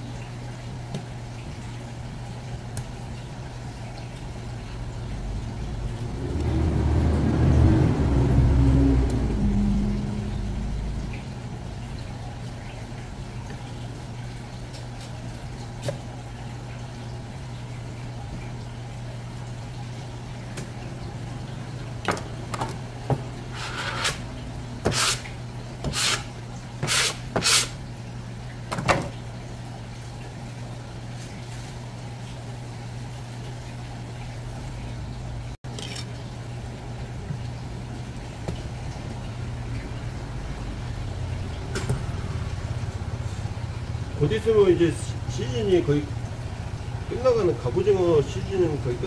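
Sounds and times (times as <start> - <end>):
running water spurts: 0.0 - 49.0
steady low hum: 0.0 - 49.0.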